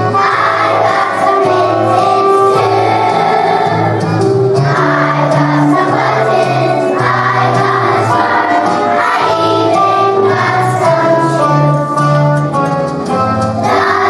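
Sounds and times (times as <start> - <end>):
children's choir singing: 0.0 - 12.6, 13.4 - 14.0.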